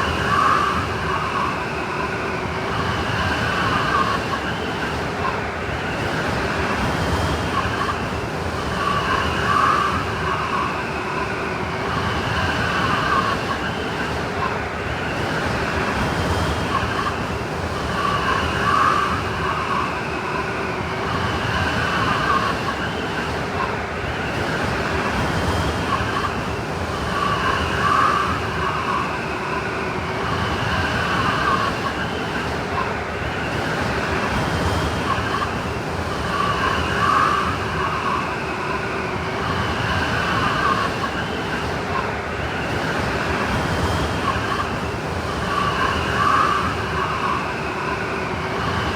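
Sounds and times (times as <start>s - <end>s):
howling blizzard wind: 0.0s - 48.9s.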